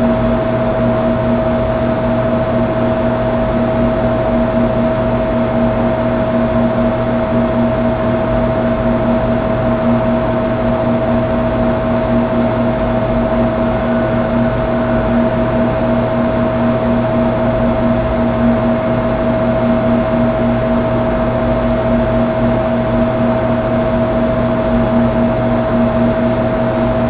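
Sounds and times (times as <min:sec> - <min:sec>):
steady two-note hum: 0:00.0 - 0:27.0.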